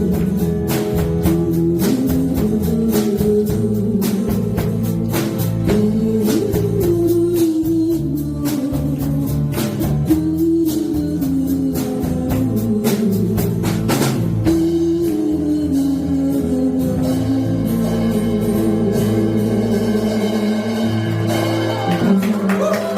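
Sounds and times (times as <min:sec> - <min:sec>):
instrumental band playing: 0:00.0 - 0:22.9.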